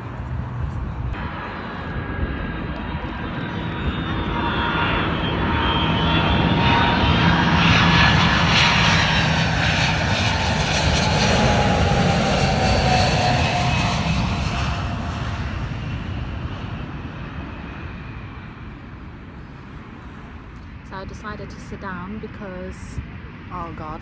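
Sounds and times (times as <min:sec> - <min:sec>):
jet flying low overhead: 0:00.0 - 0:24.0.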